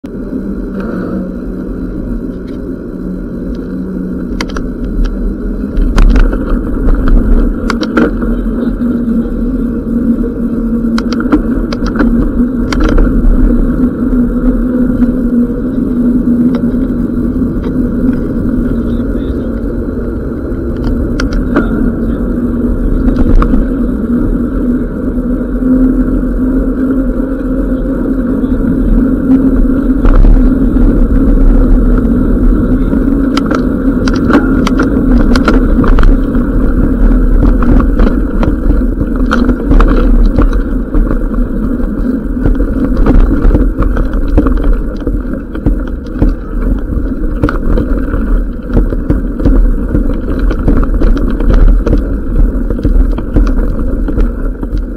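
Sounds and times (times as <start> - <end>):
bike clicks and rattles: 0.0 - 54.9
bike tyres rumbling on road: 0.0 - 54.9
wind rushing over microphone: 0.0 - 54.9.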